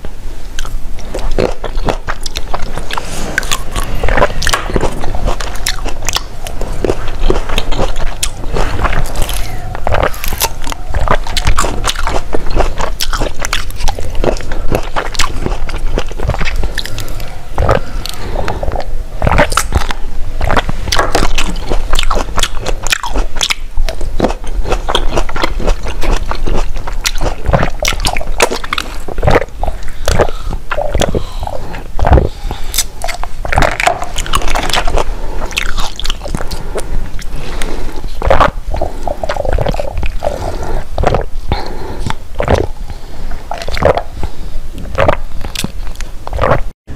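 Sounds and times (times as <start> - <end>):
crisp crunching and chewing: 0.6 - 46.7.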